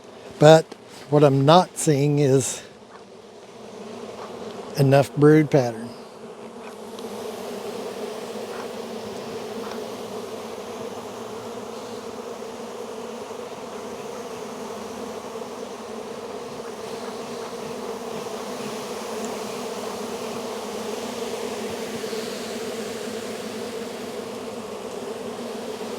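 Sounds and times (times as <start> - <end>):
honey bees buzzing: 0.0 - 25.9.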